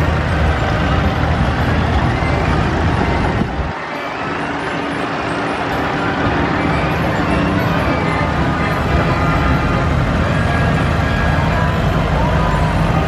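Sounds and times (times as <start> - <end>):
tractor diesel engine passing: 0.0 - 13.0
tractor engines: 0.0 - 13.0.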